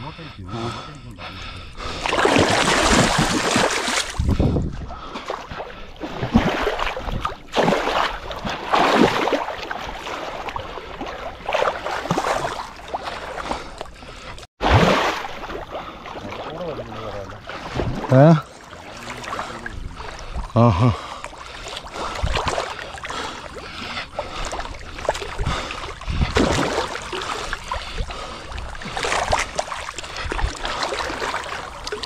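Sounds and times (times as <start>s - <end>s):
water sloshing and splashing: 0.8s - 32.0s.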